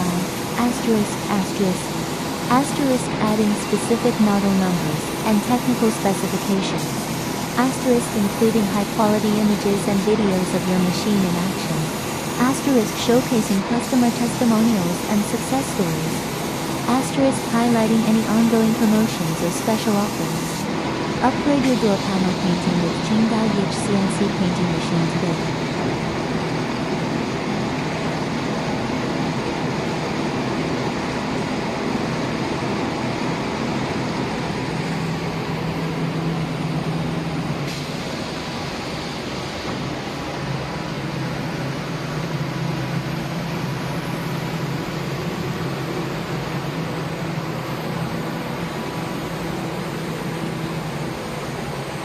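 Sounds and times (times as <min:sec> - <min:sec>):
industrial machine drone: 0:00.0 - 0:28.2, 0:30.4 - 0:52.0.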